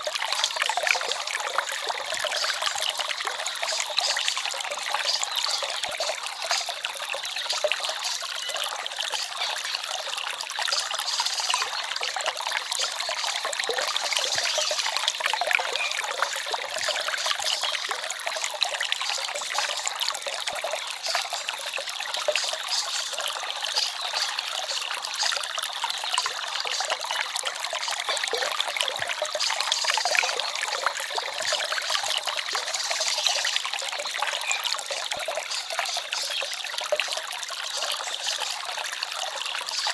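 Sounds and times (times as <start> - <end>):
forest stream babbling: 0.0 - 39.9.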